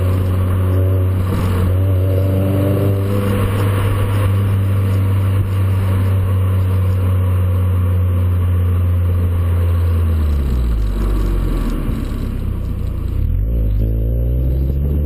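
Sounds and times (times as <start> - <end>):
car exhaust at raised revs: 0.0 - 15.0.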